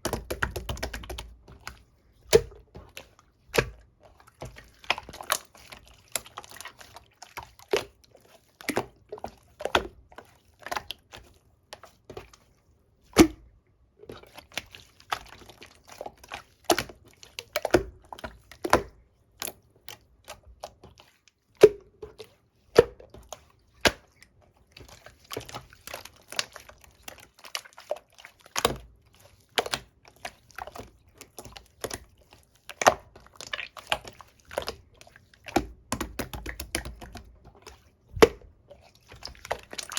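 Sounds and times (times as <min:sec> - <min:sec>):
slime squelching and popping: 0:00.0 - 0:12.4, 0:13.1 - 0:39.9.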